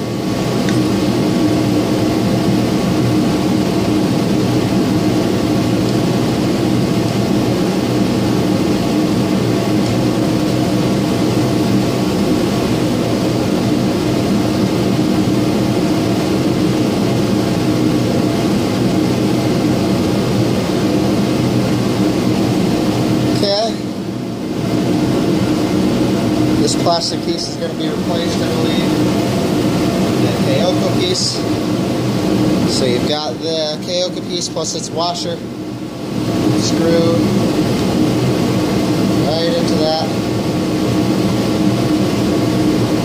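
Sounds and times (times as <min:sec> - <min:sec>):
motor or fan droning: 0:00.0 - 0:43.0.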